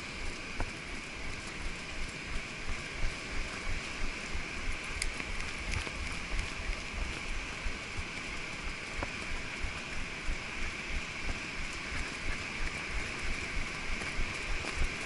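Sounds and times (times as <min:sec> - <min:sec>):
horse hooves on wet sand: 0:00.0 - 0:15.0
steady rushing hiss: 0:00.0 - 0:15.0.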